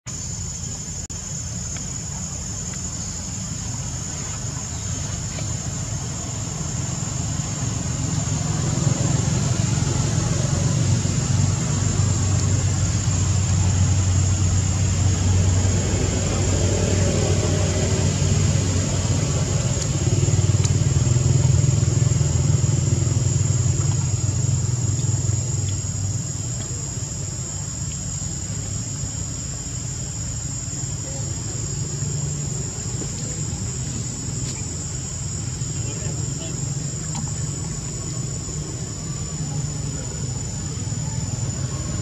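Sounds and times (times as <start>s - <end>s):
vehicle engine rumbling: 0.0s - 42.0s
high-pitched whine: 0.1s - 42.0s.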